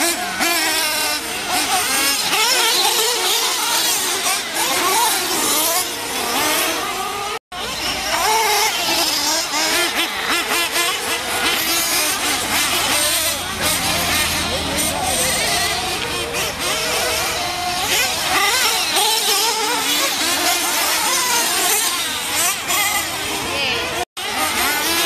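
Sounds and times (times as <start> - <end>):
rc car engines revving: 0.0 - 25.0.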